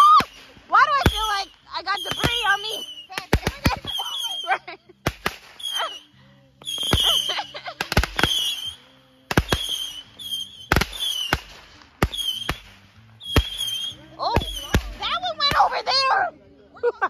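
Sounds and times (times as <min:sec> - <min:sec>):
fireworks hiss: 0:00.0 - 0:15.8
fireworks bangs: 0:00.0 - 0:16.0.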